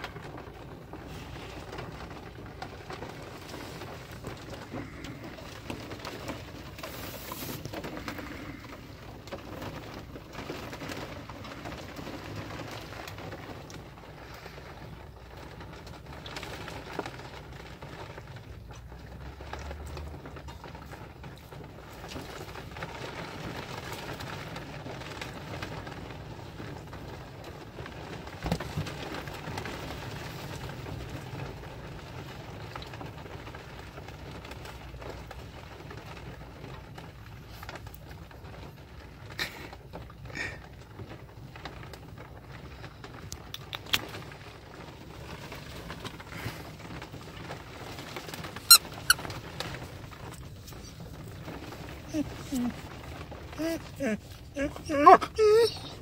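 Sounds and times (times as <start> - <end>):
puppy chewing plush toy: 0.0 - 56.0.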